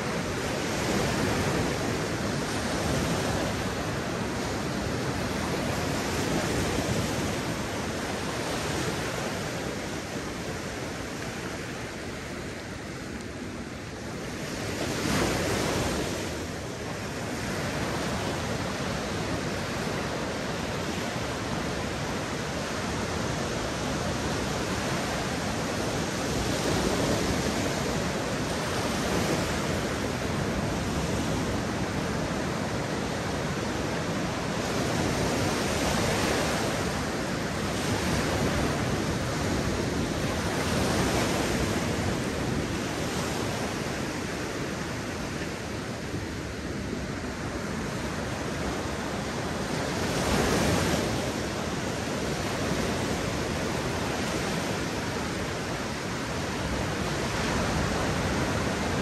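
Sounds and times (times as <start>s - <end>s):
sea waves breaking on beach: 0.0s - 59.0s.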